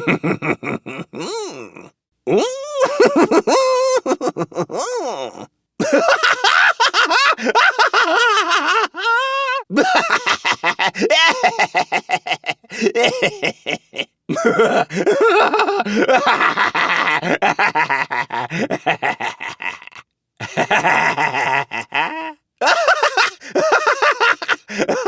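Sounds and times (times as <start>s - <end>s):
cartoon character laughs: 0.0s - 1.9s, 2.8s - 25.0s.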